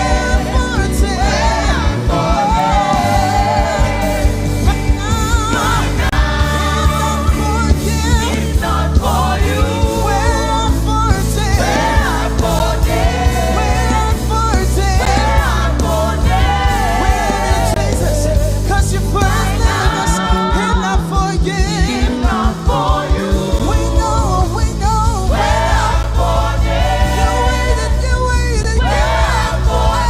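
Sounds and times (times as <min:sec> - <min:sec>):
band with bass and beat: 0:00.0 - 0:30.0
voices singing gospel: 0:00.0 - 0:30.0.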